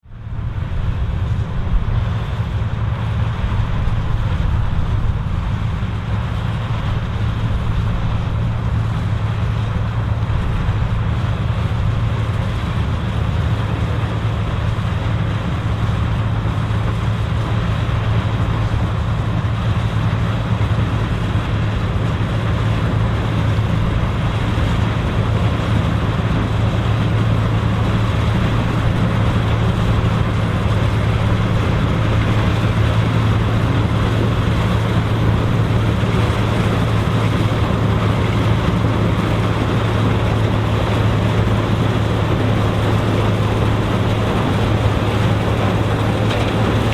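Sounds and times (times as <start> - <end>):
combine harvester engine hum: 0.0 - 46.9
harvesting machinery noise: 0.0 - 46.9.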